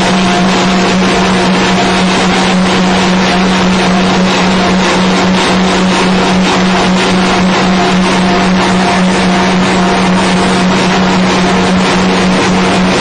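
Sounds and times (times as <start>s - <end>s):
extruder machine humming: 0.0s - 13.0s.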